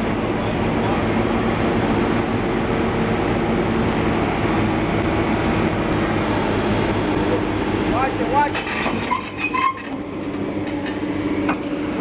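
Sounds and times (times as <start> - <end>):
heavy engine droning: 0.0 - 12.0.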